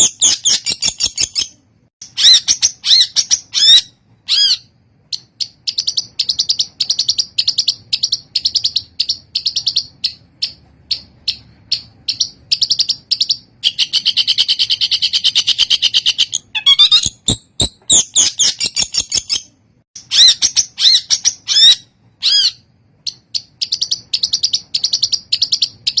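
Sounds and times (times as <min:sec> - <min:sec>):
buzzy bird trill: 0:00.0 - 0:26.0.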